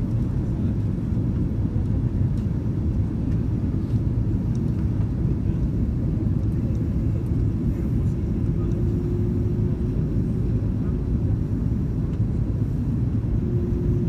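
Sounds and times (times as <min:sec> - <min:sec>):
airplane engines rumbling: 0:00.0 - 0:14.0.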